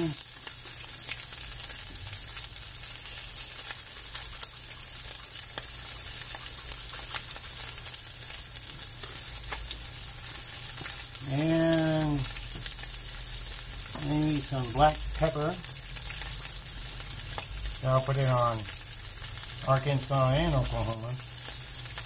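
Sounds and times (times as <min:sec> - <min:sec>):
meat sizzling in a frying pan: 0:00.0 - 0:22.0.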